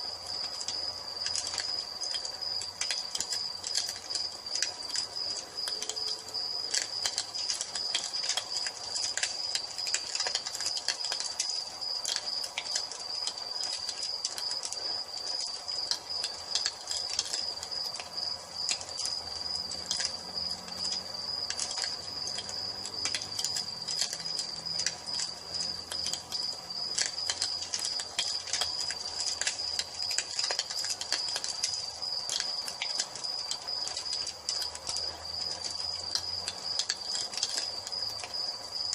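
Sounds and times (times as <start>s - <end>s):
crickets trilling: 0.0s - 38.9s
wood fire crackling and popping: 0.0s - 38.9s.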